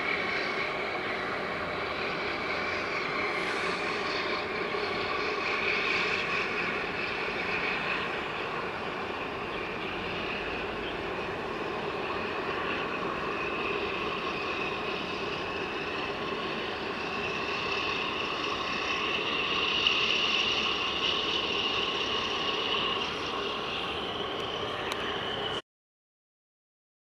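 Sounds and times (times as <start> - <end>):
distant engine noise: 0.0 - 25.6.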